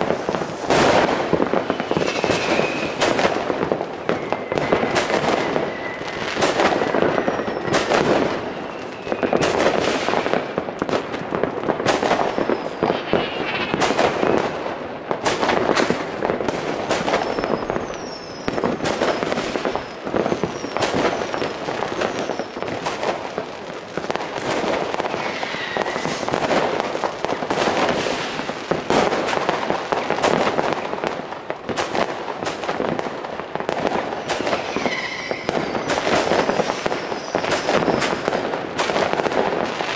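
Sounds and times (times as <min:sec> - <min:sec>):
whistling rockets: 0:00.0 - 0:11.1, 0:11.8 - 0:23.2, 0:24.1 - 0:30.9, 0:33.8 - 0:39.9
fireworks bangs and crackles: 0:00.0 - 0:39.9.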